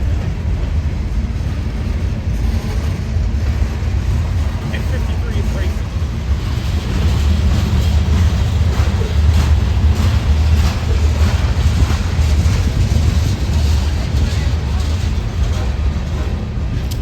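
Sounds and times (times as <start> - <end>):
train passing with low rumble: 0.0 - 17.0
wheels clattering on rail: 0.0 - 17.0.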